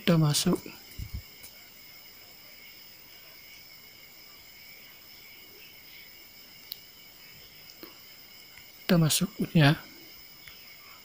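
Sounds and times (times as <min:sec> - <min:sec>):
constant high-pitched tones: 0:00.0 - 0:11.0
faint background noise: 0:00.0 - 0:11.0.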